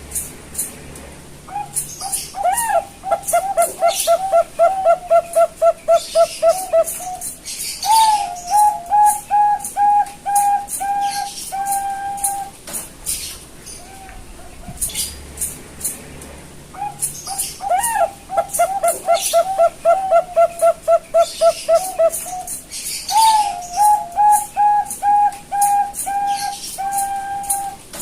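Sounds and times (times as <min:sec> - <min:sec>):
dove cooing: 0:01.5 - 0:12.6, 0:13.7 - 0:15.1, 0:16.7 - 0:28.0.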